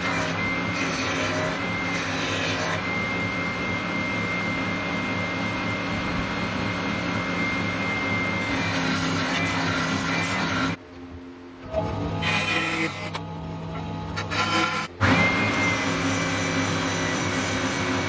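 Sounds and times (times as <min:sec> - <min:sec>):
power tool motor whine: 0:00.0 - 0:10.8, 0:11.6 - 0:18.0.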